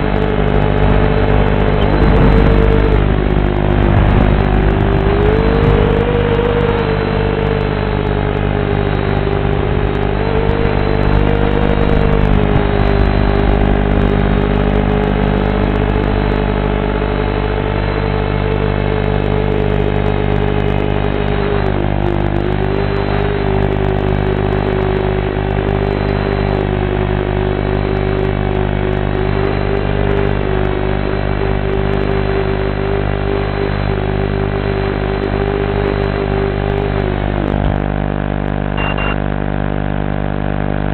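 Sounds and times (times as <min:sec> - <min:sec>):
drone motors whining: 0:00.0 - 0:40.9
steady low hum: 0:00.0 - 0:40.9.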